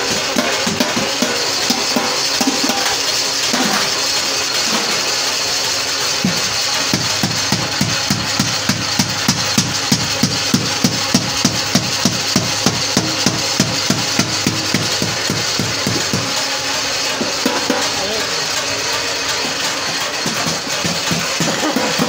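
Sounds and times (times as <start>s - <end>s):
hammer striking steel bucket: 0.0s - 5.1s, 6.2s - 22.0s.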